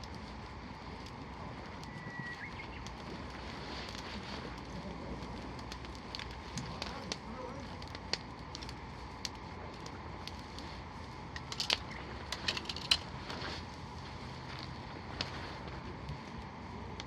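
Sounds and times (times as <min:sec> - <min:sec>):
sharp pops from fire: 0:00.0 - 0:17.0
wood campfire crackling: 0:00.0 - 0:17.0.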